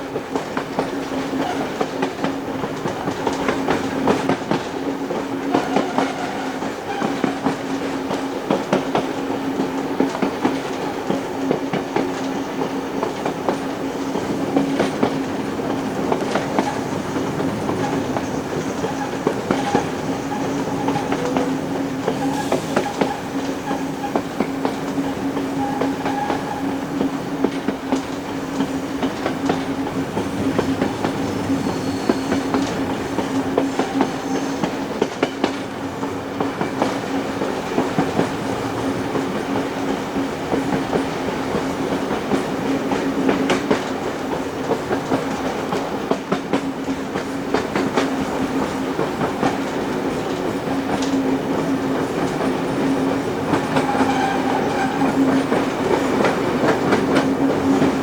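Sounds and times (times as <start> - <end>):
train rolling hum: 0.0 - 58.0
wheels clacking over rails: 0.0 - 58.0.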